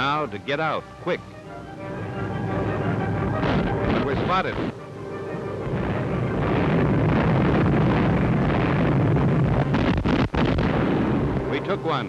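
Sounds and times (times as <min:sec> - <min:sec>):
aircraft engines roaring: 0:00.0 - 0:12.0
anti-aircraft fire rumble: 0:01.2 - 0:12.0.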